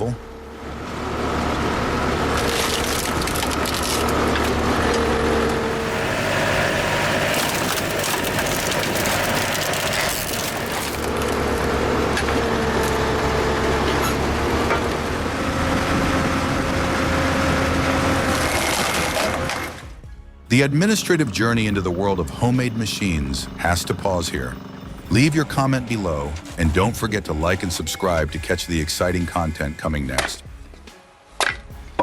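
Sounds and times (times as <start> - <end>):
hydraulic log splitter whine: 0.1 - 20.0, 22.0 - 28.4.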